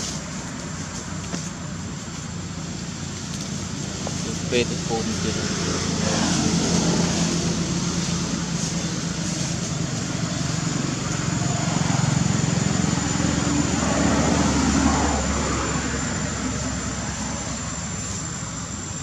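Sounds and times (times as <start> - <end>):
motor engine running: 0.0 - 19.0.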